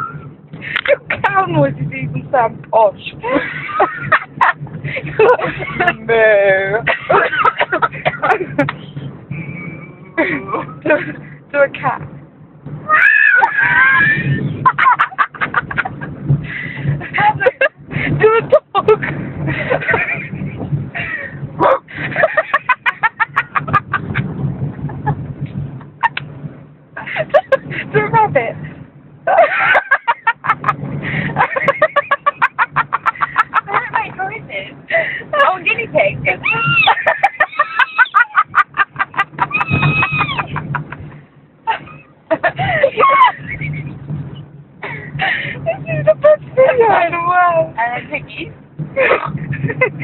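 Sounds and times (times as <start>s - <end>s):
low car hum: 0.0s - 50.0s.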